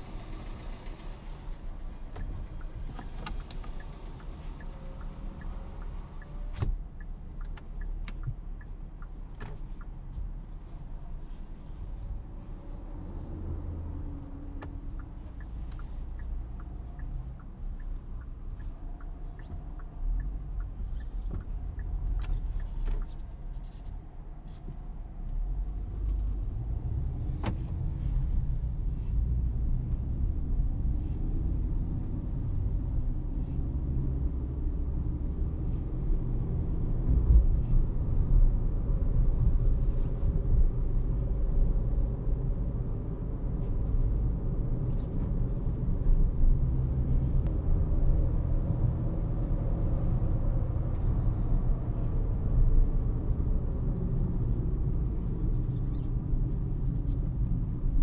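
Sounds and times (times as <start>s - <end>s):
low road rumble: 0.0s - 58.0s.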